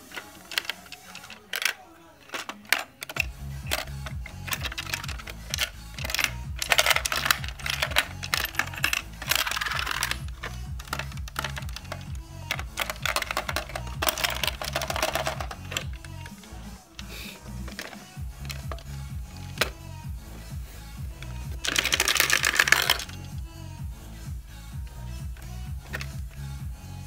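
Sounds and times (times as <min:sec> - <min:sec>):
coins rattling in plastic bank: 0:00.0 - 0:19.8, 0:21.1 - 0:23.4, 0:25.2 - 0:26.4
plastic handling clicks: 0:00.0 - 0:19.9, 0:21.1 - 0:23.4, 0:25.3 - 0:26.4
background music with bass: 0:02.7 - 0:27.0.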